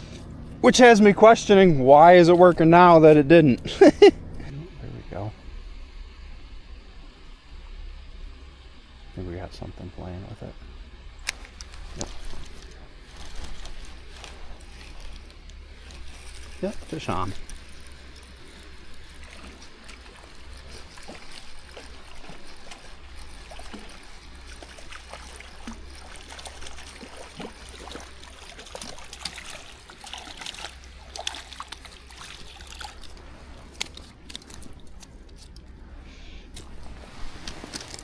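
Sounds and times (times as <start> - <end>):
water splashing and trickling: 0.0 - 38.0.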